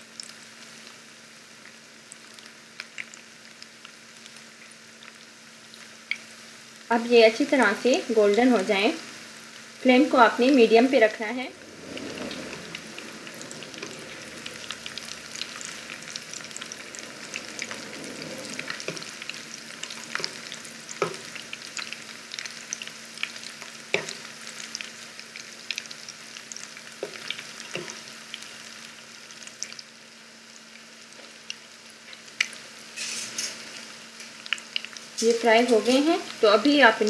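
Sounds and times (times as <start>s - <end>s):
meat sizzling in hot oil: 0.0s - 37.0s.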